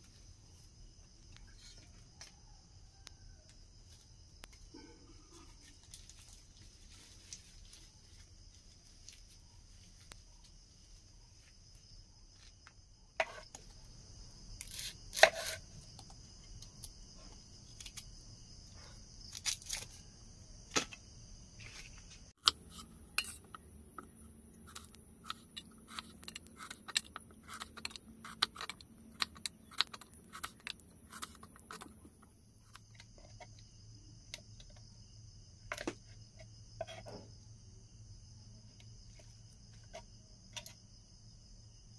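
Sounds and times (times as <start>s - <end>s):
high insect sound: 0.0s - 41.9s.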